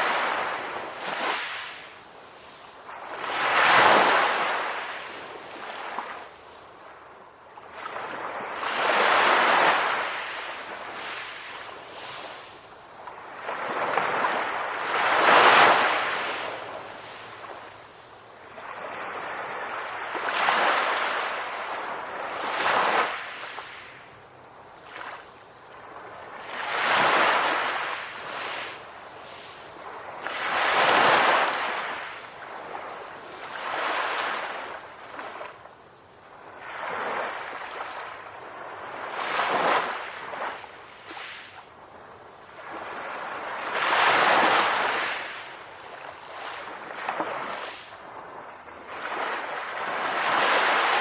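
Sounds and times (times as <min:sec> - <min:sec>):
ocean waves breaking on beach: 0:00.0 - 0:51.0.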